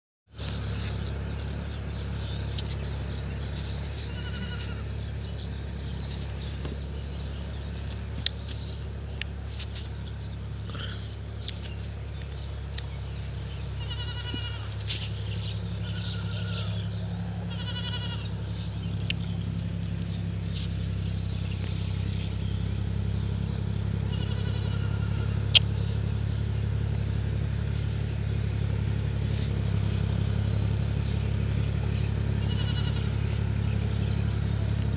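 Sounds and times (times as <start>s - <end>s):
low engine hum: 0.3s - 34.9s
wavering animal calls: 0.7s - 8.1s, 8.8s - 20.4s, 21.0s - 26.8s, 27.9s - 34.7s.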